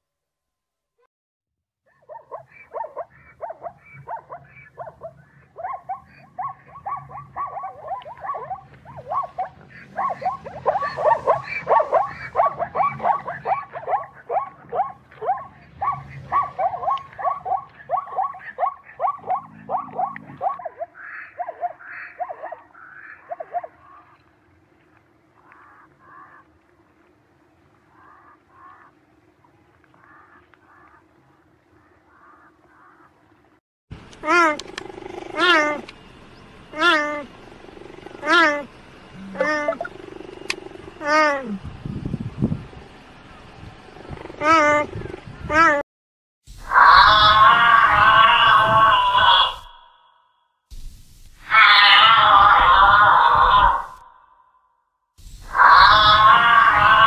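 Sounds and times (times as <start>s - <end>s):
zebras yelping barks: 1.9s - 26.8s, 27.5s - 33.2s, 34.1s - 41.7s, 46.6s - 50.0s, 51.4s - 54.2s, 55.4s - 57.0s.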